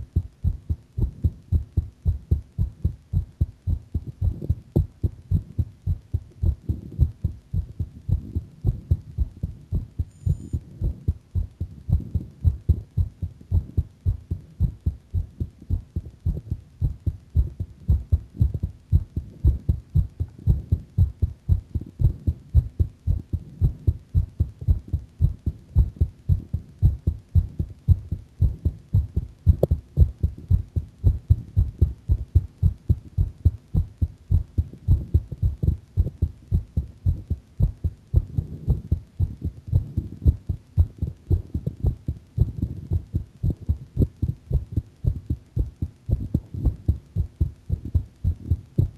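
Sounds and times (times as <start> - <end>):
heart beating: 0.0 - 48.9.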